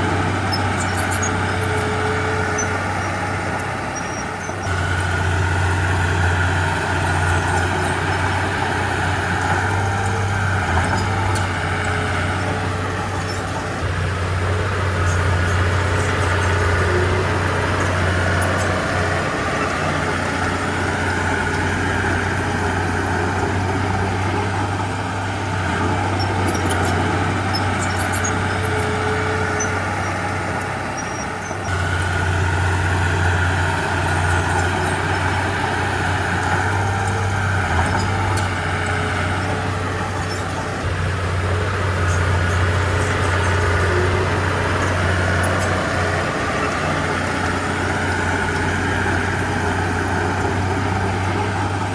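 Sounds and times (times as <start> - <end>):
heavy diesel engine drone: 0.0 - 51.9.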